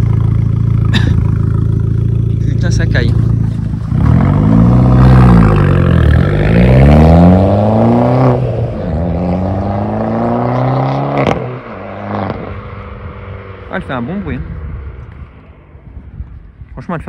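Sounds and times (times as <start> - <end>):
car engine accelerating: 0.0 - 16.5.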